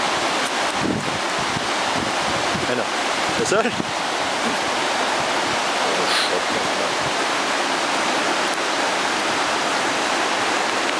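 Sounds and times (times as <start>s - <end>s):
river rushing over rocks: 0.0s - 10.9s.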